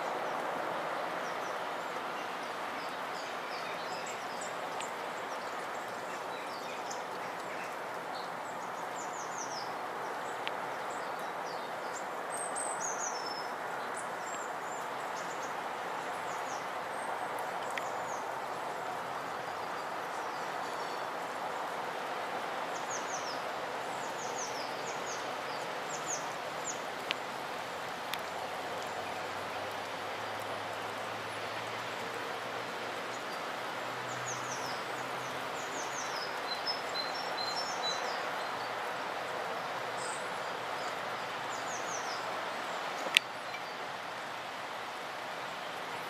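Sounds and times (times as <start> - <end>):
outdoor background noise: 0.0 - 46.0
small birds chirping: 0.0 - 46.0.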